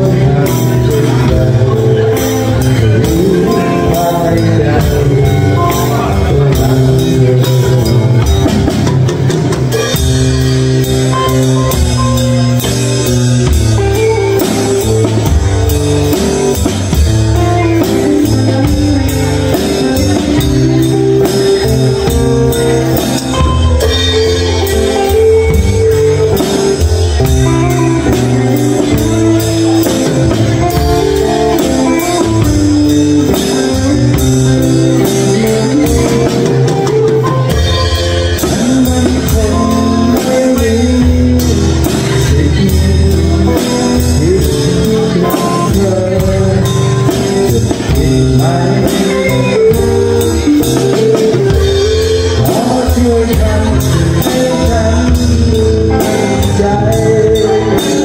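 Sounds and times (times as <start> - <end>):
drum kit playing a groove: 0.0 - 58.0
pitched instruments playing notes: 0.0 - 58.0.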